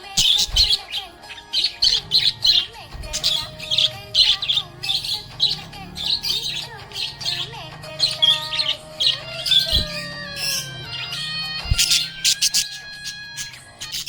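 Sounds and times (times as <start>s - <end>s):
bird whistling descending: 0.0s - 14.0s
budgerigars chirping and squawking: 0.0s - 14.0s.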